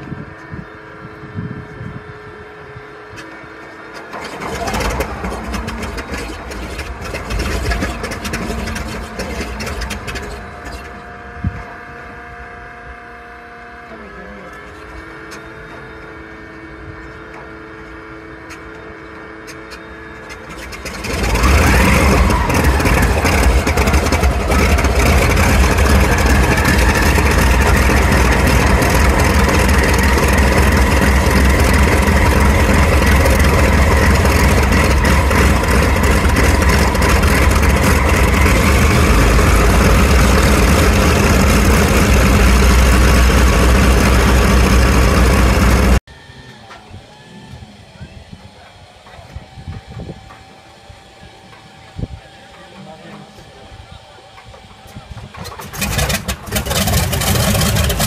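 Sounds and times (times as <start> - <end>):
radial engine starting and running: 0.0 - 58.0.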